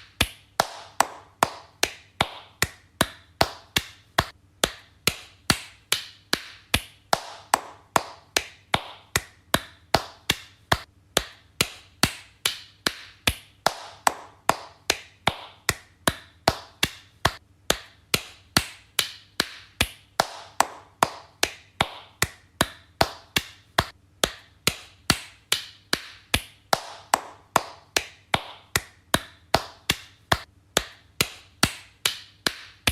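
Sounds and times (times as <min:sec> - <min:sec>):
slow hand clapping: 0:00.0 - 0:32.9.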